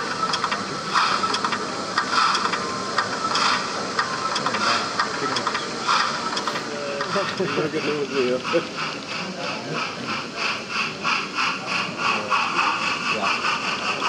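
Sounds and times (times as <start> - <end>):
model steam locomotive chuffs: 0.0 - 14.0.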